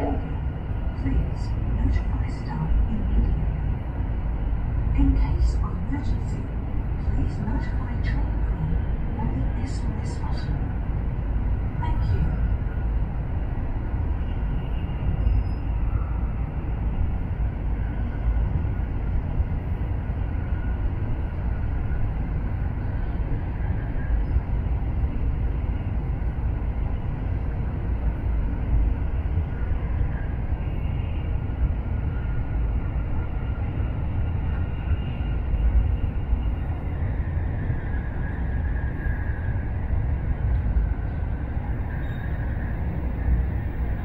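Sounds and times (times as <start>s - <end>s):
train rolling rumble: 0.0s - 44.0s.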